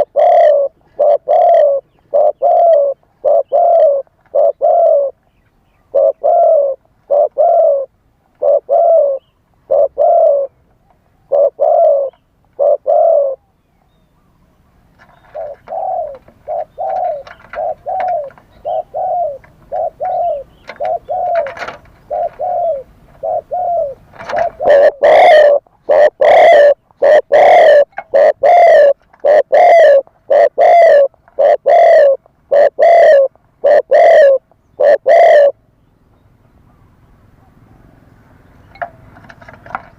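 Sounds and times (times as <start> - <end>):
dove cooing: 0.0 - 5.2, 5.8 - 10.6, 11.2 - 13.5, 14.9 - 35.6.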